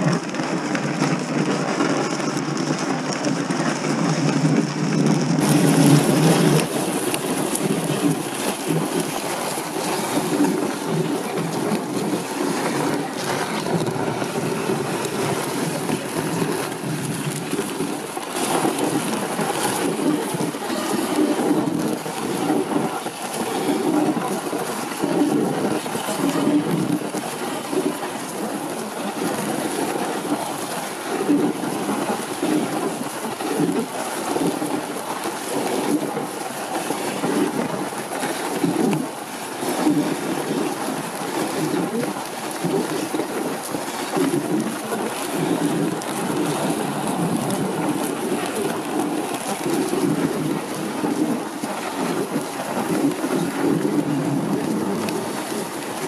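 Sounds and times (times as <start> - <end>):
sled runners crunching snow: 0.0 - 56.0.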